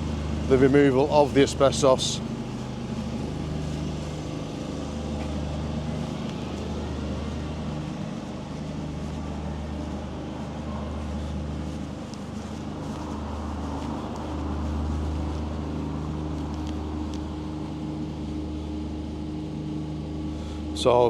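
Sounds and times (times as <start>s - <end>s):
low engine hum: 0.0s - 21.0s
street noise: 0.0s - 21.0s.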